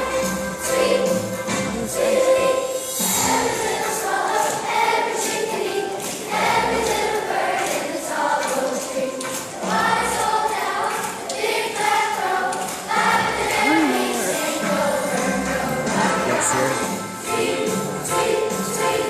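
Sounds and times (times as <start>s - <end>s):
children's choir singing: 0.0s - 19.0s.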